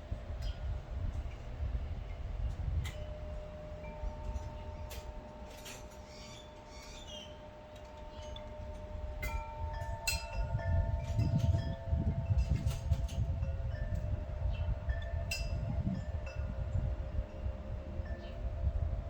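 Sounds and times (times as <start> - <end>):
metallic ringing tones: 2.9 - 18.5.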